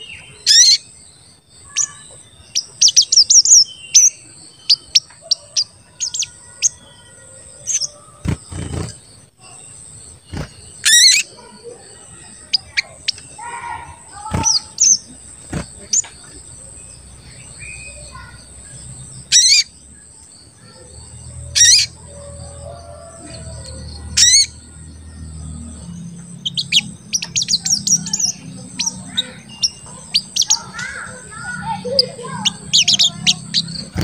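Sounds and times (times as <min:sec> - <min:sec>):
sunbird chirping: 0:00.0 - 0:34.0.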